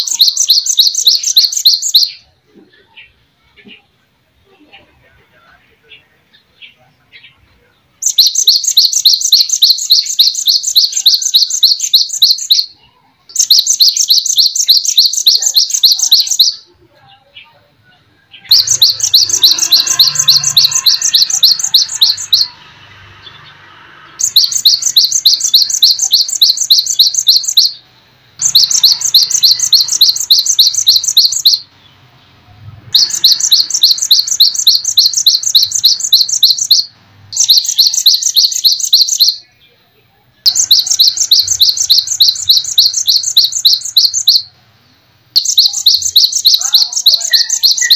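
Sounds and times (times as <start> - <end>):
songbird chirping: 0.0 - 47.9.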